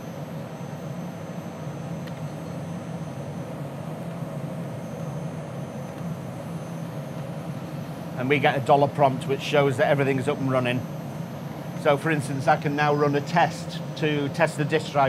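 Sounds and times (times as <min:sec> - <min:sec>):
computer fans and drive motors droning: 0:00.0 - 0:15.0.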